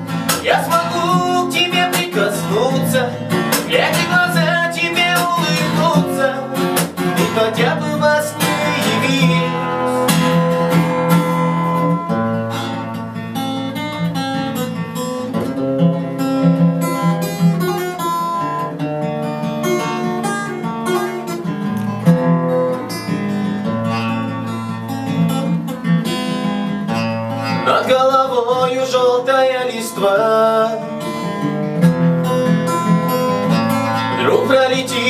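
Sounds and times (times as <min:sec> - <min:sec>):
acoustic guitar picking and strumming: 0:00.0 - 0:35.0.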